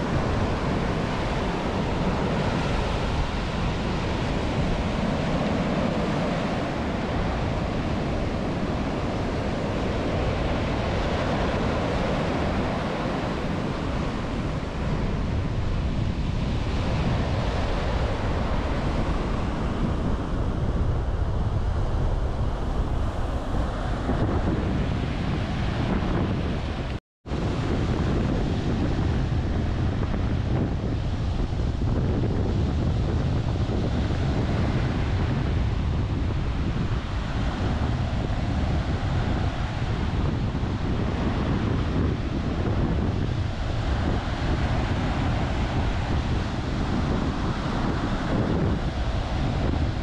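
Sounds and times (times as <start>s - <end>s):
surf breaking on beach: 0.0s - 50.0s
wind buffeting microphone: 0.0s - 50.0s.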